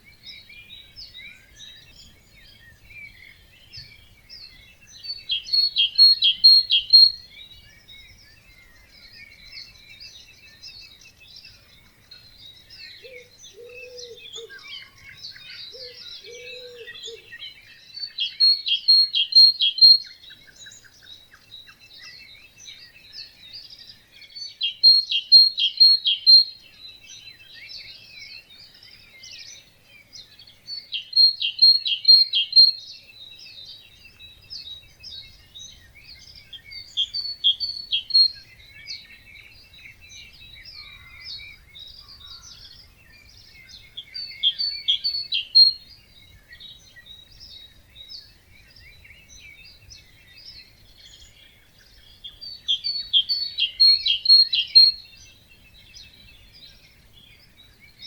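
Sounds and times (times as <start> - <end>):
bird song of rapid notes: 0.0 - 58.0
birds singing chorus: 0.0 - 58.0
low bird calls: 0.0 - 58.0.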